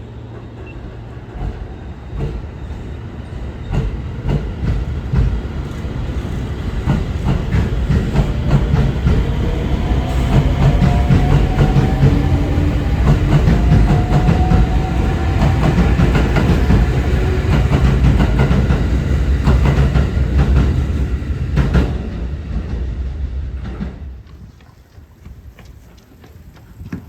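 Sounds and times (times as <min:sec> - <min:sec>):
train wheels clattering: 0:00.4 - 0:22.9.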